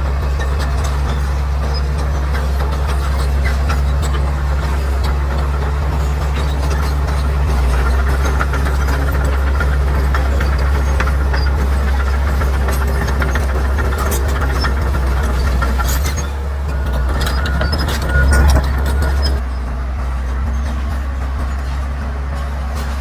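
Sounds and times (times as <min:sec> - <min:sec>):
bulldozer diesel engine droning: 0:00.0 - 0:23.0.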